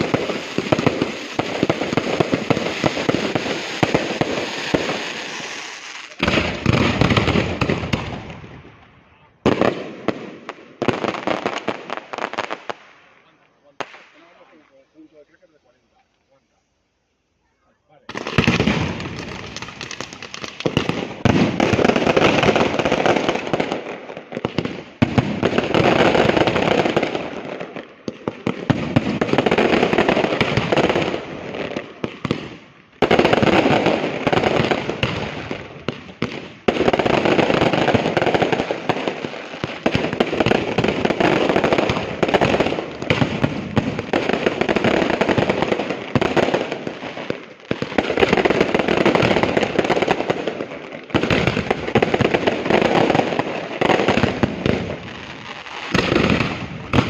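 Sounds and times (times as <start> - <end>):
fireworks crackling: 0.0 - 17.3, 18.0 - 57.0.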